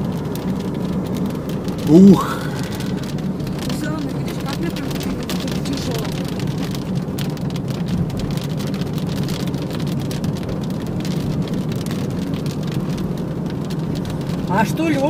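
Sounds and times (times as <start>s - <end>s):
car engine hum: 0.0s - 15.0s
rain pattering on car roof: 0.0s - 15.0s
tyres on wet road: 0.0s - 15.0s.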